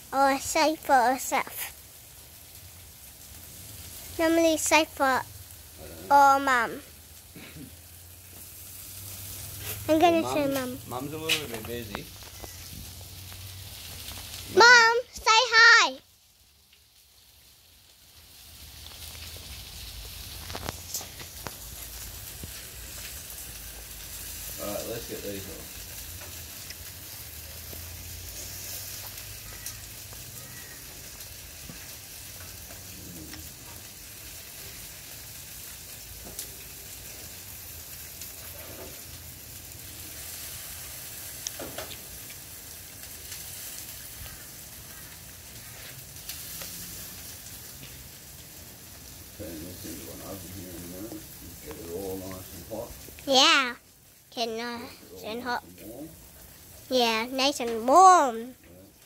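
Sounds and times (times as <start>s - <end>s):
meat sizzling on a grill: 0.0s - 59.0s.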